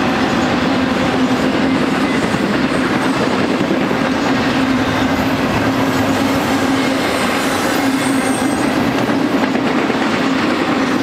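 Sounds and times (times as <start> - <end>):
freight train rolling on rails: 0.0 - 11.0.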